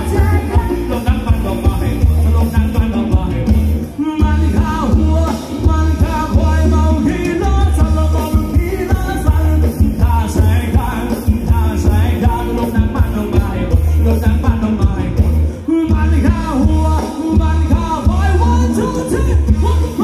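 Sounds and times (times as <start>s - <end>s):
heavy pulsing bass beat: 0.0s - 20.0s
live band dance music: 0.0s - 20.0s
person singing: 0.0s - 20.0s.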